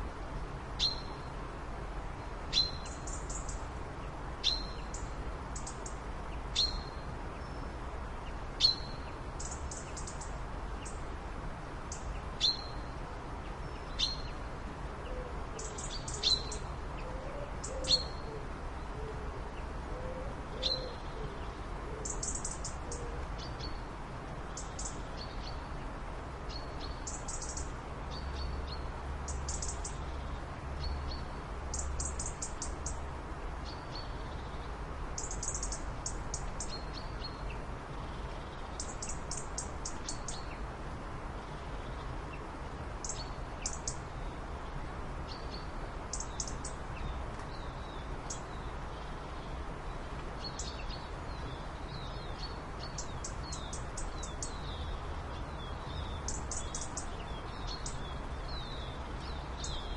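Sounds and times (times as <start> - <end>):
background hiss: 0.0 - 59.9
small birds chirping: 0.8 - 1.3, 2.2 - 11.0, 11.8 - 14.5, 15.6 - 18.3, 20.6 - 23.9, 24.5 - 40.7, 41.3 - 59.9.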